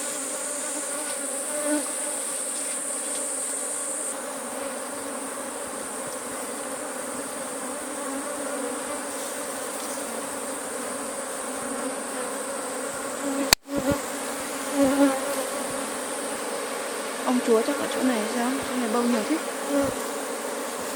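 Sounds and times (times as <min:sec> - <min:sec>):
honeybees buzzing: 0:00.0 - 0:20.9.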